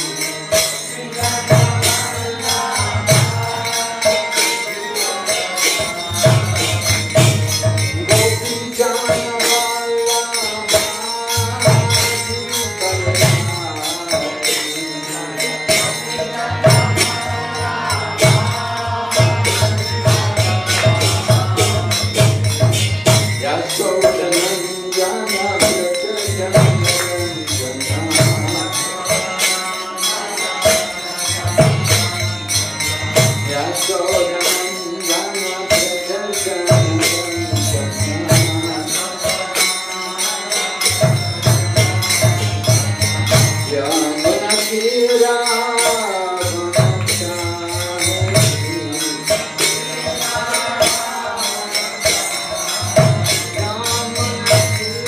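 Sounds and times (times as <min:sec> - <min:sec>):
person singing a chant: 0:00.0 - 0:07.3, 0:08.0 - 0:55.0
small hand cymbals: 0:00.0 - 0:55.0.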